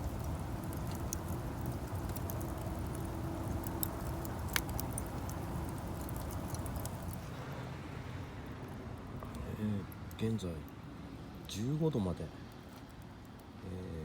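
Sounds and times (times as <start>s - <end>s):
campfire crackling and popping: 0.0s - 7.3s, 8.6s - 14.0s.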